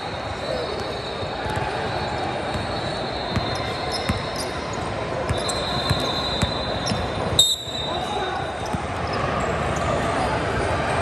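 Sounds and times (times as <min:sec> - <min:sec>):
echoing gym crowd din: 0:00.0 - 0:11.0.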